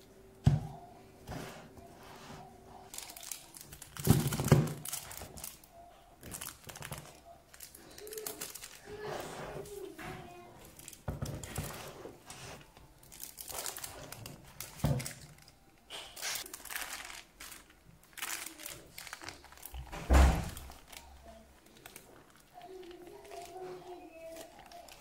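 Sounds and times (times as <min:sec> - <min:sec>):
baking paper crinkling: 0:01.2 - 0:25.0.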